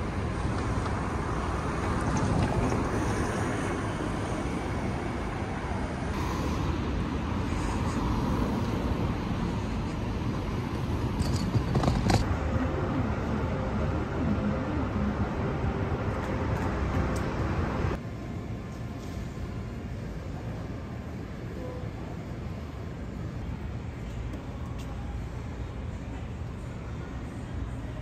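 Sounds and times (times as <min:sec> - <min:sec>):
road traffic going by: 0:00.0 - 0:28.0.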